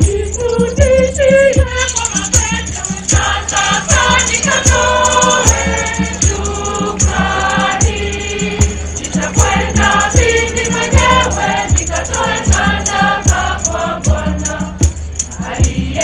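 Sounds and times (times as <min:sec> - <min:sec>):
choir singing gospel: 0:00.0 - 0:16.0
shaker percussion: 0:00.0 - 0:16.0
steady drum beat: 0:00.0 - 0:16.0.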